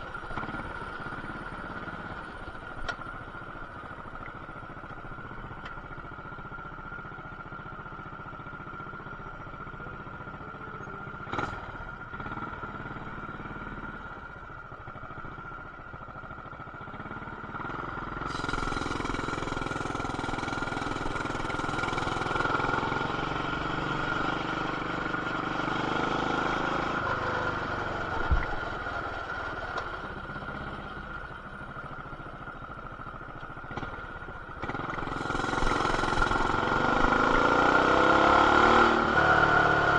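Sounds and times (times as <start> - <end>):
muffled mini bike engine: 0.0 - 39.9.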